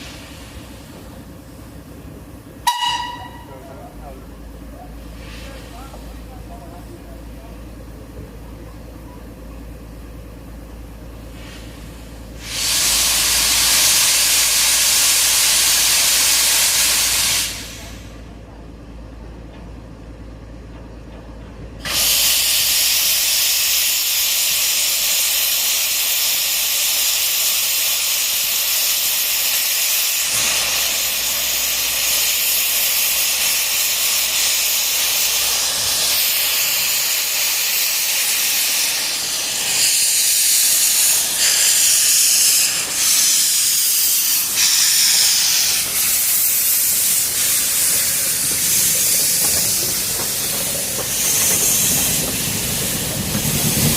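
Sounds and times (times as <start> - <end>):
steam locomotive venting steam: 0.0 - 18.6, 20.9 - 53.9.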